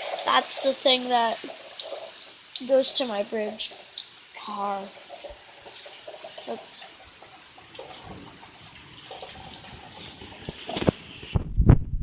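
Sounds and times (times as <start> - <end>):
heavy rain pouring: 0.0 - 11.4.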